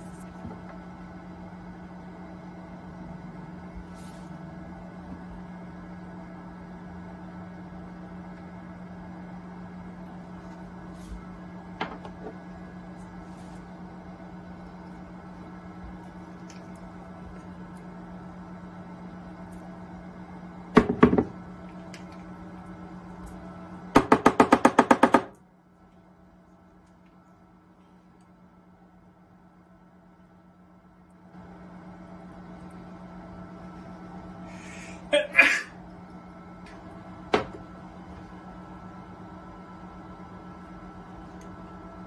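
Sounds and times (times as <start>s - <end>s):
microwave oven humming: 0.0s - 42.0s.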